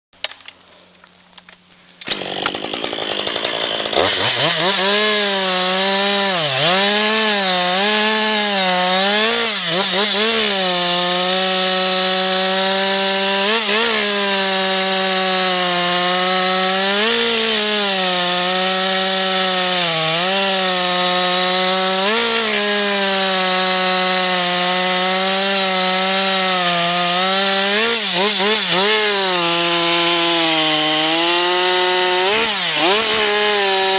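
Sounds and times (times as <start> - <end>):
chainsaw cutting wood: 0.2 - 33.9.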